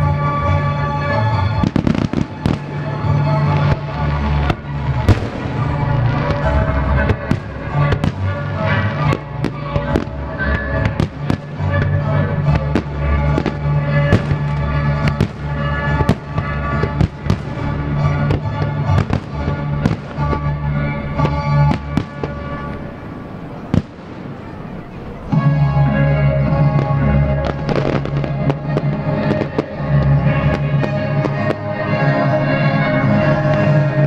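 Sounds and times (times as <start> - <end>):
fireworks bursting: 1.0 - 25.5, 26.5 - 34.0.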